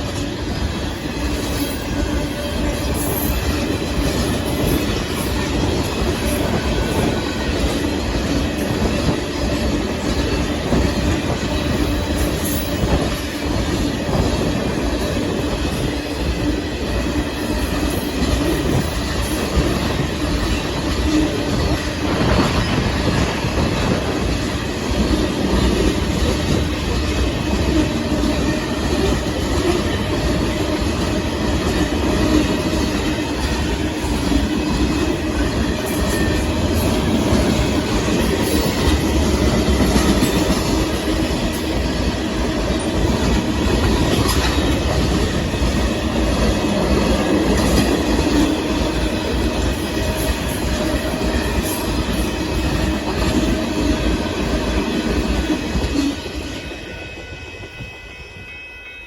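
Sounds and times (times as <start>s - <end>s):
freight train wheels clacking: 0.0s - 57.9s.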